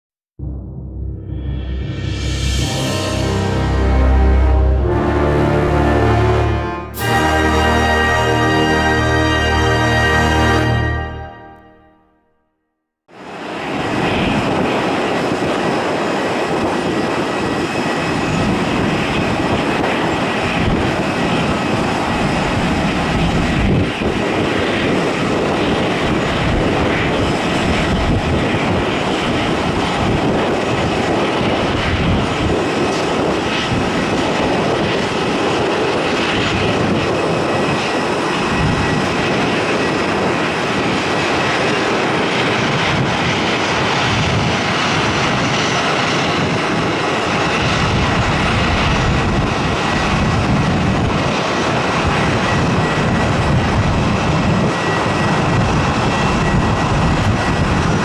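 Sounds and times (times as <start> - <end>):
jet engine rush: 0.4 - 9.6, 13.1 - 58.0.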